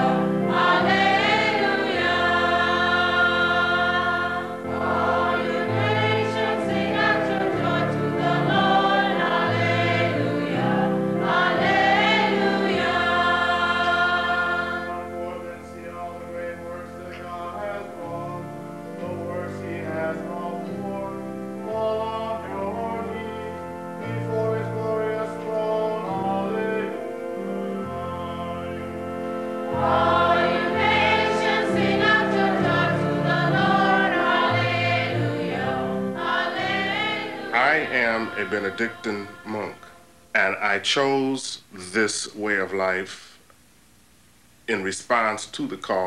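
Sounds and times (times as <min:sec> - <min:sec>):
choir singing slow notes: 0:00.0 - 0:40.7.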